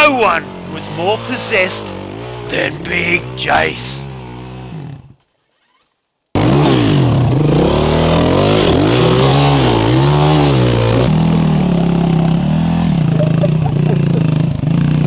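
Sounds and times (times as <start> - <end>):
dirt bike engine revving: 0.0 - 5.2, 6.4 - 15.0.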